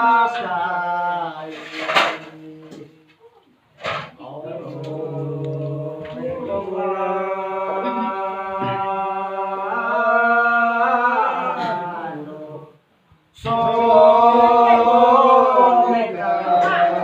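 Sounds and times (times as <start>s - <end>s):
men chanting long held notes: 0.0s - 3.0s, 4.2s - 12.8s, 13.4s - 17.0s.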